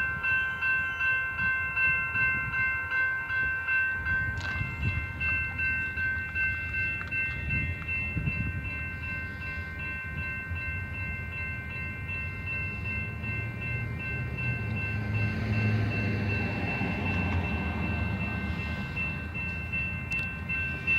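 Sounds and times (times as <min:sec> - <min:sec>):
freight train rumble: 0:00.0 - 0:20.9
high-pitched metallic ringing tones: 0:00.0 - 0:20.9.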